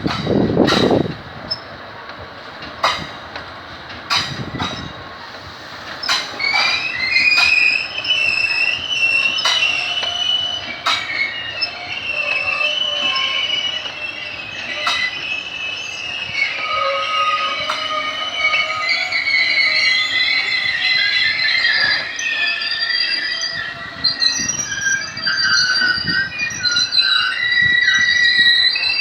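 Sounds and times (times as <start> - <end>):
train wheels squealing: 0.0 - 1.8, 2.4 - 29.0
wheels clacking over rail joints: 0.0 - 24.6.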